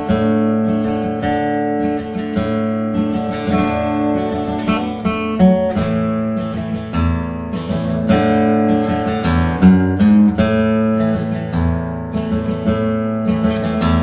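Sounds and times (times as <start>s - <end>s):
acoustic guitar strumming and plucking: 0.0s - 14.0s.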